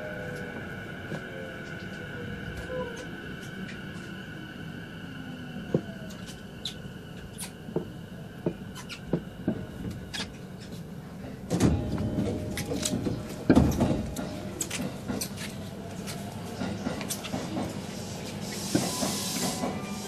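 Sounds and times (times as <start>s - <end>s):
train electrical whine: 0.0s - 20.0s.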